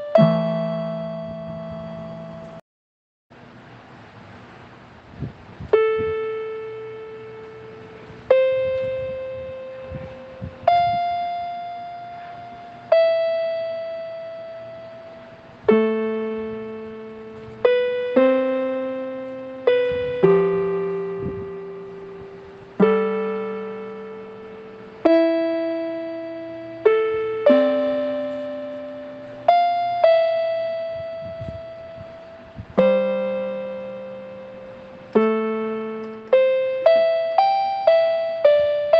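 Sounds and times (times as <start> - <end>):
slow sparse keyboard music: 0.0 - 2.6, 3.4 - 38.9.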